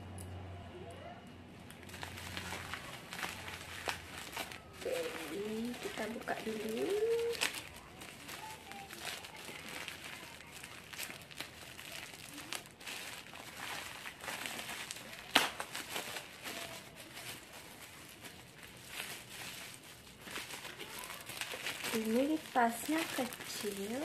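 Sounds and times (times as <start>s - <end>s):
plastic bag crinkling: 1.6s - 24.0s.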